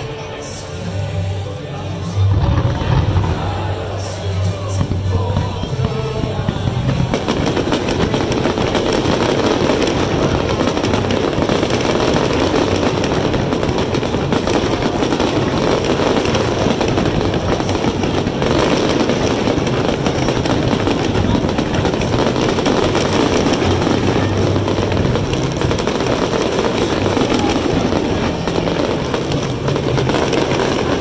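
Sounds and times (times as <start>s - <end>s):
fireworks bursting and crackling: 0.0s - 31.0s.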